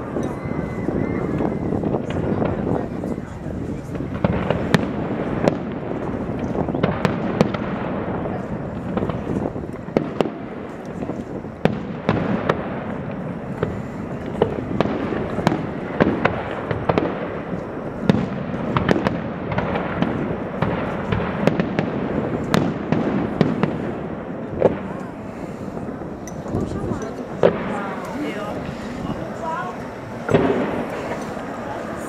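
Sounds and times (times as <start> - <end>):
fireworks bangs and crackles: 0.0 - 32.0
rumbling wash of firework bursts: 0.0 - 32.0.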